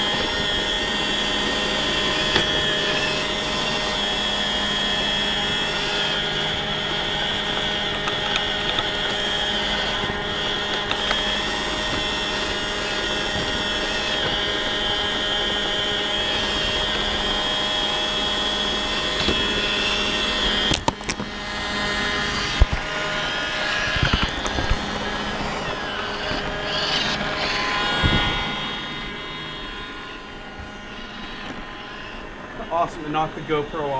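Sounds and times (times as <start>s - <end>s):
robot vacuum running: 0.0s - 33.9s.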